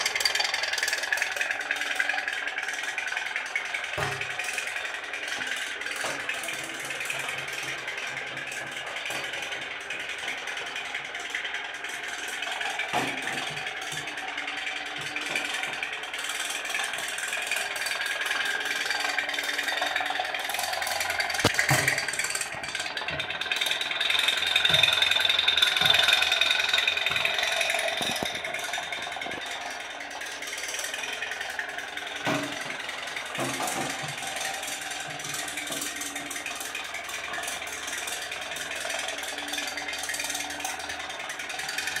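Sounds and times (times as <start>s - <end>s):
toy steam boat putt-putting: 0.0s - 42.0s.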